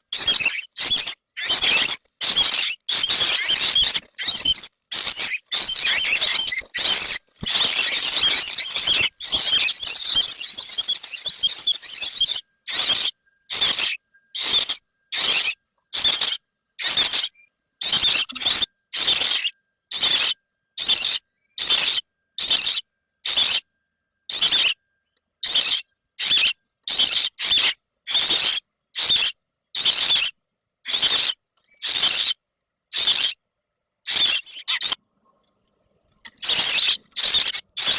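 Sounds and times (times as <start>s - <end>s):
baby birds chirping: 0.0s - 23.6s, 24.3s - 24.8s, 25.4s - 33.4s, 34.0s - 35.0s, 36.2s - 37.9s.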